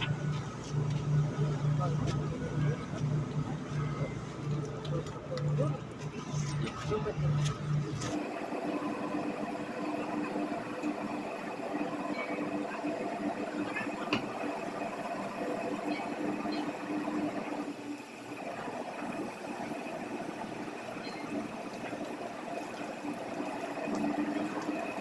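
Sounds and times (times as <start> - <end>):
ship engine droning hum: 0.0 - 25.0.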